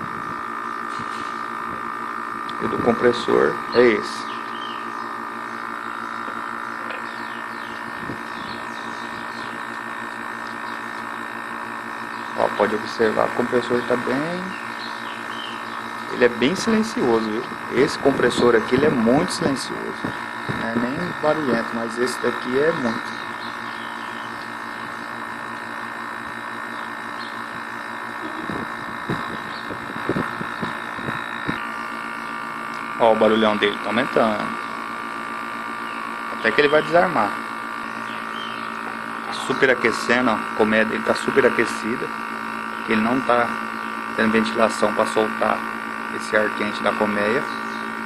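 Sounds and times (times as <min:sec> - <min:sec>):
air conditioner compressor hum: 0:00.0 - 0:48.0.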